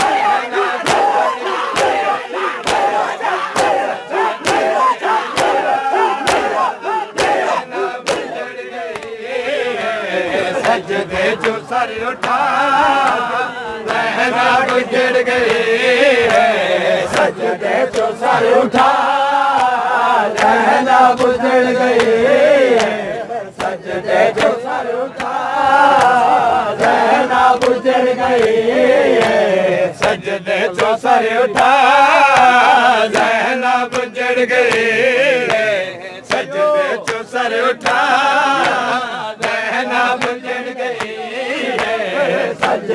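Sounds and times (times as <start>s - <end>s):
men chanting in unison: 0.0s - 42.9s.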